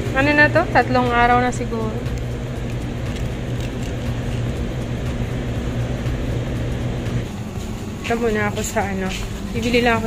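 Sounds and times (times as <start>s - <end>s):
low mechanical hum with rushing: 0.0s - 10.0s.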